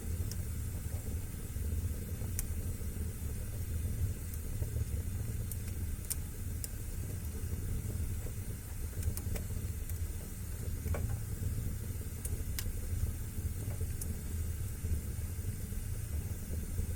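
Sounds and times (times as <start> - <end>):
fire popping and snapping: 0.0 - 16.9
fire rumbling: 0.0 - 16.9.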